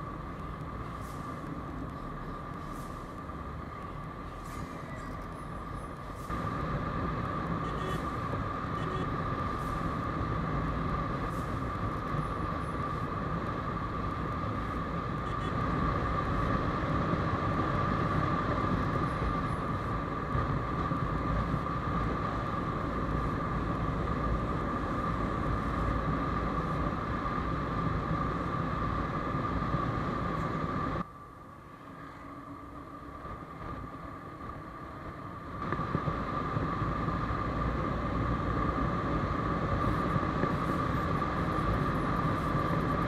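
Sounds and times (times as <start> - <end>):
constant high hum: 0.0 - 43.0.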